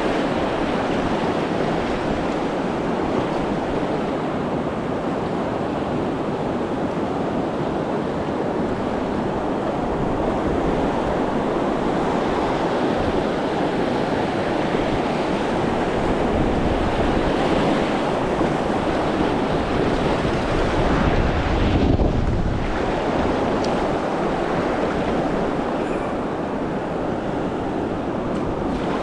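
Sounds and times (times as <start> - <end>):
river water rushing over rapids: 0.0 - 29.0
wind buffeting microphone: 0.0 - 29.0.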